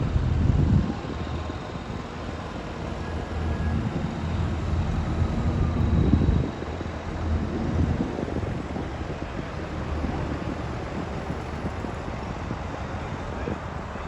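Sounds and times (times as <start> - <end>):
tractor engine running: 0.0 - 14.0
wind buffeting microphone: 0.0 - 14.0.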